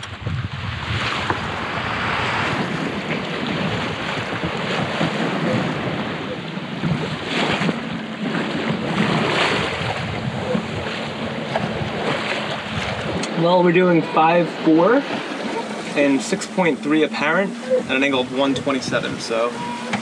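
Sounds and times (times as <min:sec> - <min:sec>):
sea water washing along hull: 0:00.0 - 0:20.0
wind buffeting microphone: 0:00.0 - 0:20.0.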